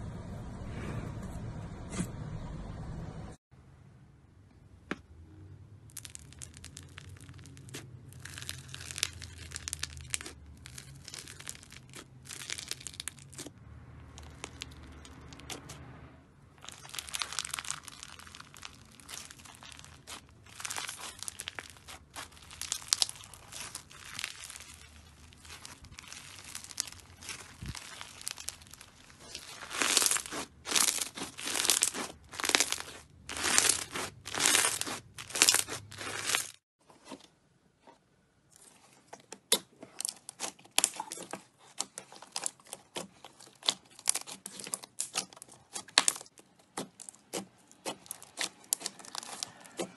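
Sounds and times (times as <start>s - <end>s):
foam bead slime crackling: 5.8s - 15.6s, 16.5s - 36.6s, 38.6s - 49.9s.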